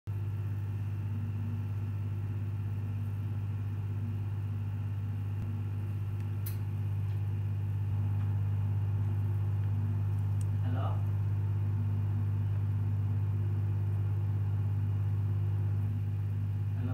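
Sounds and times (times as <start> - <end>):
steady low hum: 0.1 - 16.9.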